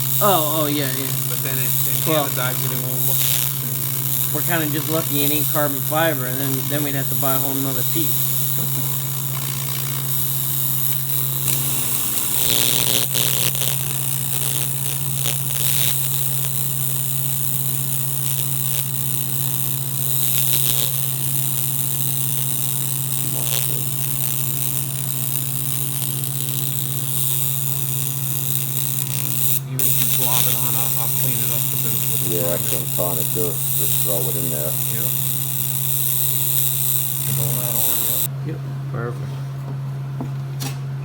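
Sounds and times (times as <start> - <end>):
crackling bursts: 0.0 - 38.3
welding machine hum: 0.0 - 38.3.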